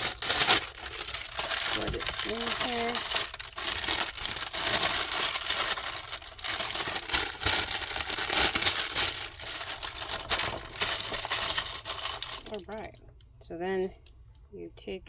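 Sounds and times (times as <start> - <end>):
paper crinkling and rustling: 0.0 - 12.9.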